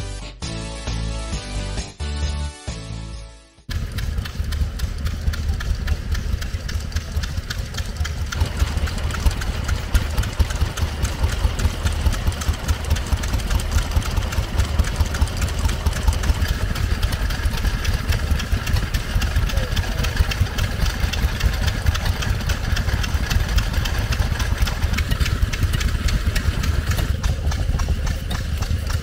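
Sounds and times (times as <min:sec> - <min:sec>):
stationary engine running: 0:03.7 - 0:29.0.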